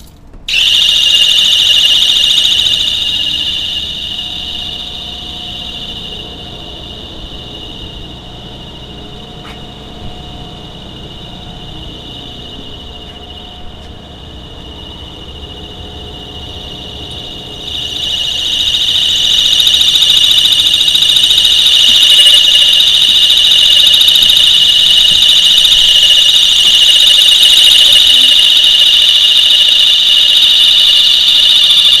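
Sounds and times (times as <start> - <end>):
low hum: 0.0 - 32.0
high-pitched alarm tone: 0.5 - 32.0.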